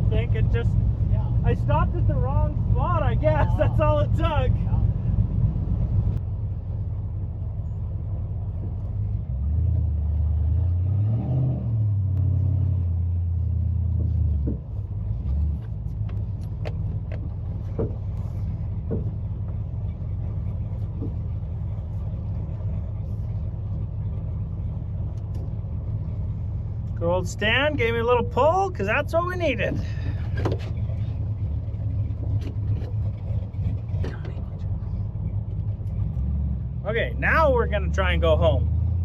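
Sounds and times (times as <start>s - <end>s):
vehicle engine running under load: 0.0s - 39.0s.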